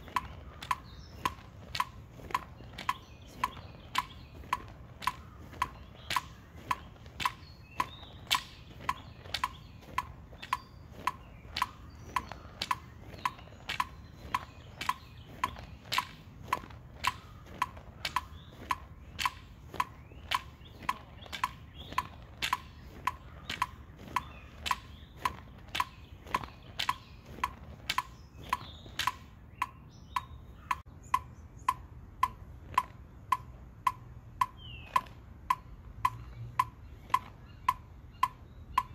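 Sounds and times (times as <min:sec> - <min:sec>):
metronome clicking: 0:00.0 - 0:38.9.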